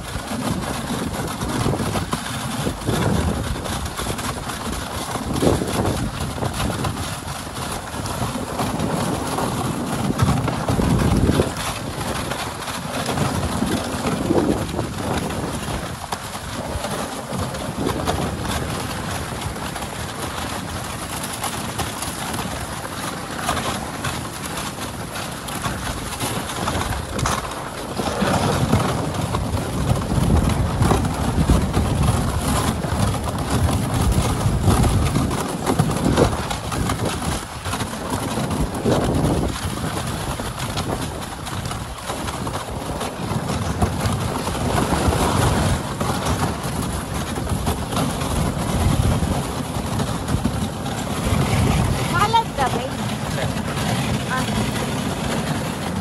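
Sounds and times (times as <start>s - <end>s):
sled runners scraping snow: 0.0s - 56.0s
wind on microphone: 0.0s - 56.0s.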